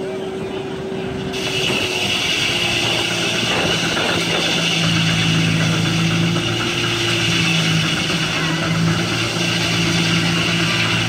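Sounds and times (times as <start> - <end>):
sawmill humming and hissing: 0.0 - 11.0.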